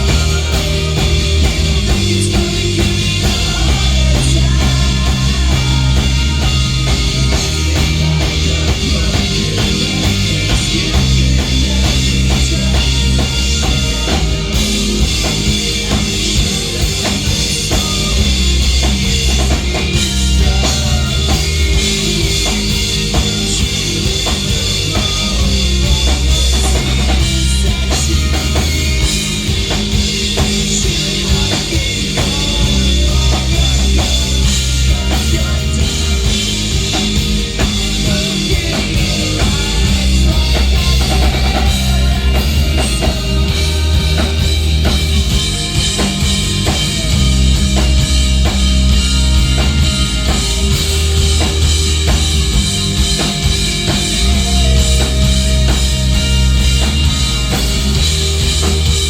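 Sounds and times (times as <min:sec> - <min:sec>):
rock band playing loud: 0:00.0 - 0:59.0.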